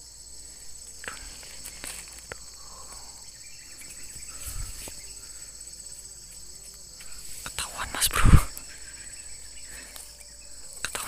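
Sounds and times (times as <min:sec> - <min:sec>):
insects chorus: 0:00.0 - 0:11.0
rustles in dry undergrowth: 0:00.0 - 0:11.0.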